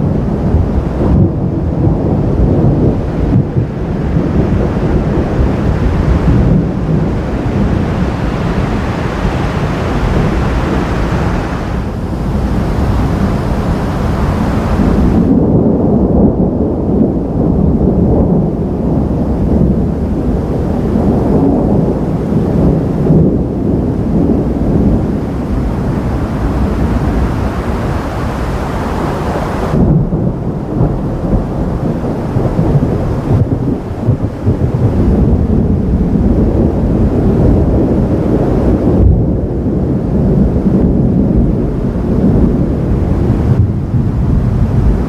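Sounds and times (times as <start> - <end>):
thunder rumbling: 0.0 - 45.0.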